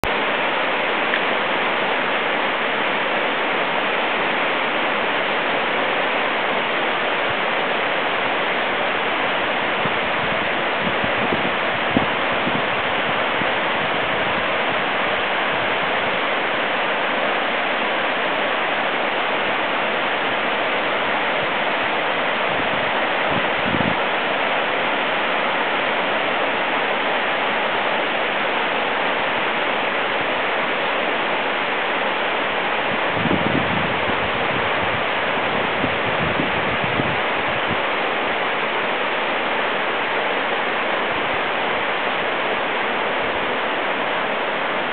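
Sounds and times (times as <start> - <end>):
creek water rushing: 0.0 - 44.9.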